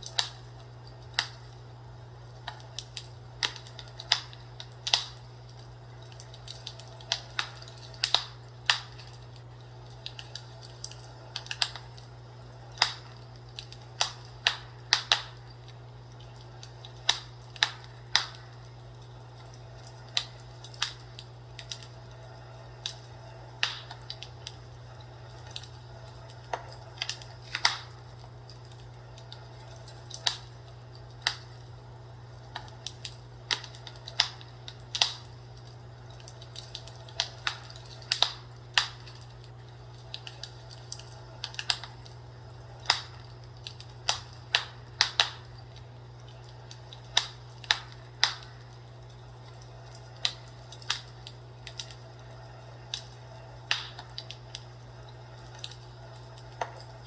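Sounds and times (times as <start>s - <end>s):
fireplace crackling: 0.0s - 57.0s
steady low hum: 0.0s - 57.0s.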